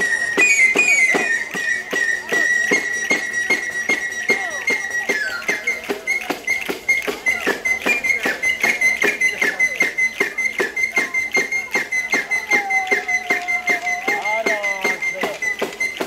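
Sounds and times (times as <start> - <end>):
frame drums with jingles: 0.0 - 16.0
wooden flute high note: 0.0 - 16.0.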